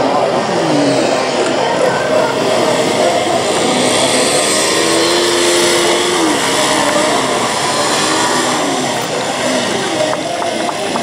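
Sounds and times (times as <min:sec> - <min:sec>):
dirt bike engines at low speed: 0:00.0 - 0:11.0.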